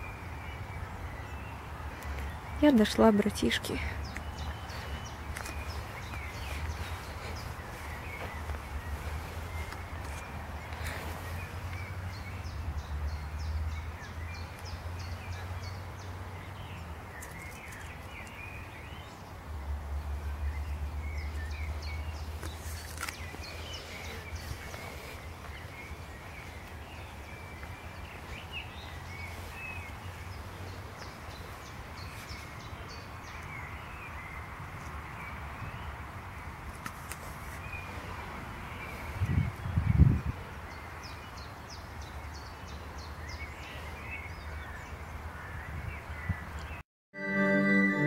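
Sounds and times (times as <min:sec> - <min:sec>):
small birds singing and chirping: 0:00.0 - 0:36.6, 0:37.6 - 0:46.8.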